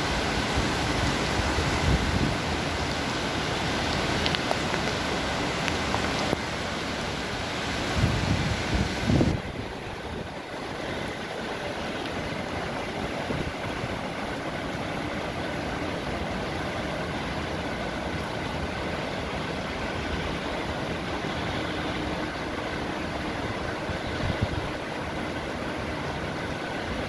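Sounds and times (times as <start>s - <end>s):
low traffic hum: 0.0s - 27.0s
steady rain: 0.0s - 27.0s.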